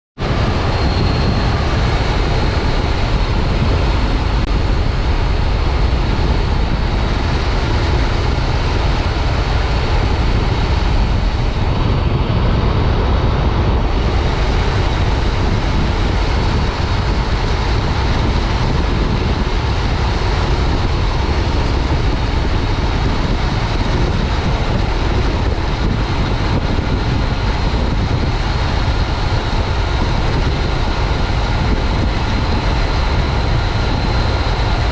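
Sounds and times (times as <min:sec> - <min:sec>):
motorcycle engine running: 0:00.2 - 0:34.9
road rush: 0:00.2 - 0:34.9
wind noise: 0:00.2 - 0:34.9.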